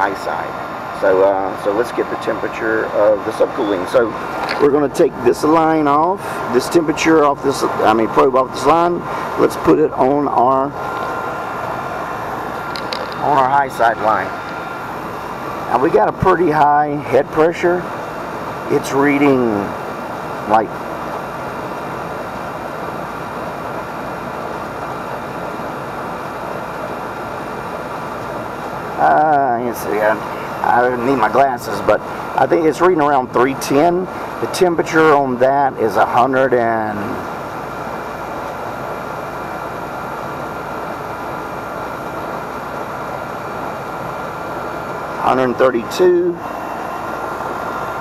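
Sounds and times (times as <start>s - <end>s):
air conditioner unit running: 0.0s - 48.0s.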